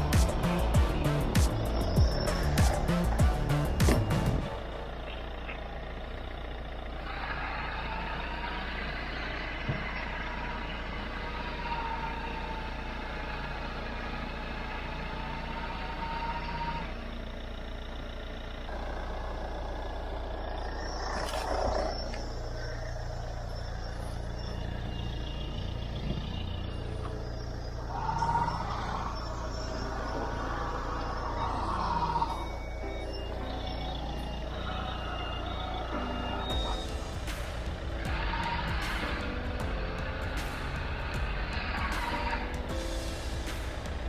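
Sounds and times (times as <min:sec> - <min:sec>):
high whine: 0:00.0 - 0:44.0
truck engine running: 0:00.0 - 0:44.0.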